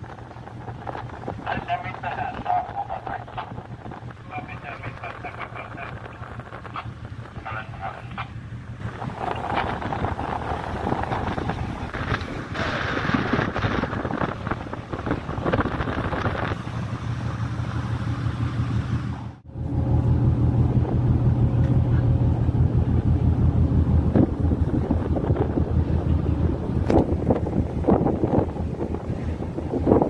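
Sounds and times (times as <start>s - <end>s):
wind buffeting microphone: 0.0s - 18.0s, 19.0s - 30.0s
low steady hum: 0.0s - 30.0s.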